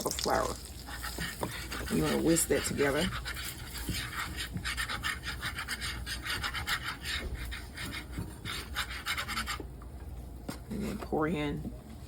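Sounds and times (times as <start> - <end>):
whisk scraping a skillet: 0.0 - 9.8.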